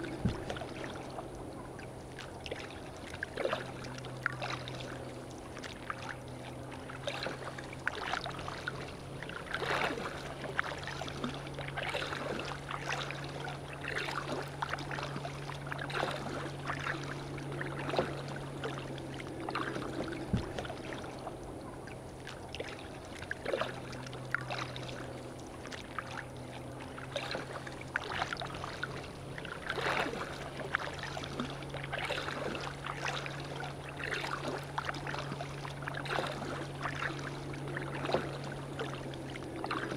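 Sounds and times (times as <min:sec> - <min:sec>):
paddle strokes splashing: 0:00.0 - 0:39.9
steady low hum: 0:00.0 - 0:39.9
water lapping at hull: 0:00.0 - 0:39.9.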